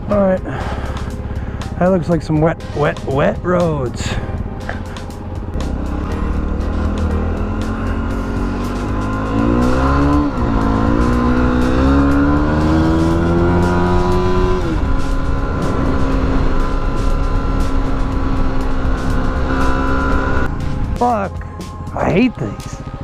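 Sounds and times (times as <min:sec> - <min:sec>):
low wind rumble: 0:00.0 - 0:23.0
motorcycle engine accelerating: 0:00.0 - 0:23.0.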